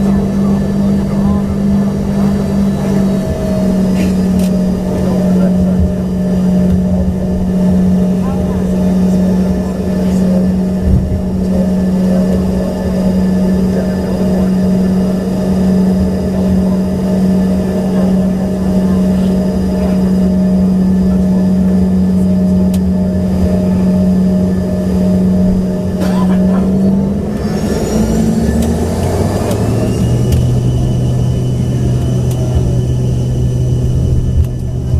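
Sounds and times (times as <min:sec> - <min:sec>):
engine whine spooling up: 0:00.0 - 0:34.9
jet engines humming in cabin: 0:00.0 - 0:34.9.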